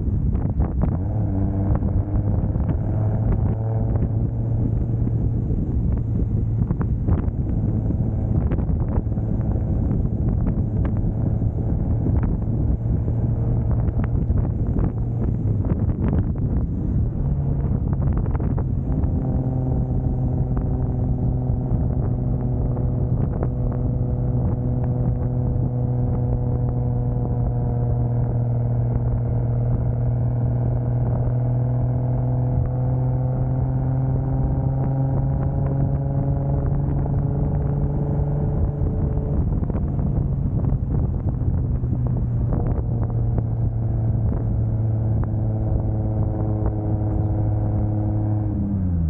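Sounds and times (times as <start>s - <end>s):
car engine drone: 0.0s - 49.0s
road and wind noise: 0.0s - 49.0s.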